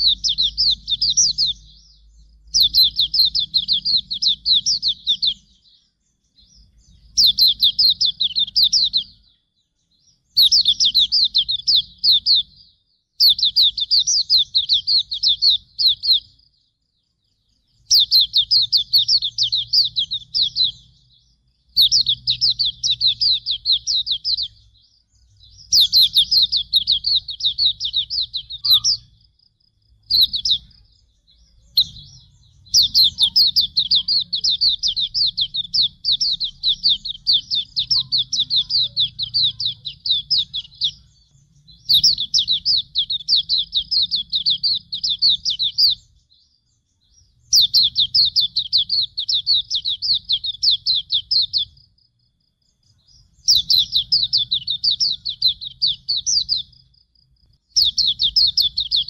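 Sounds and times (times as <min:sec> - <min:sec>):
bird singing high chirps: 0:00.0 - 0:59.0.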